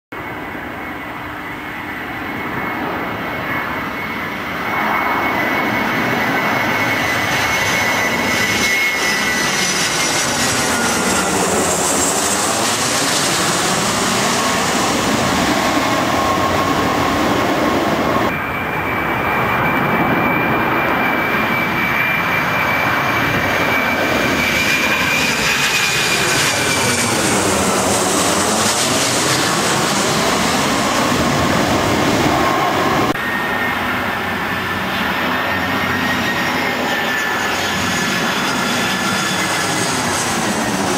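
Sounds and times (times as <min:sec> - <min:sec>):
jet airliner passing overhead: 0:00.1 - 0:40.9.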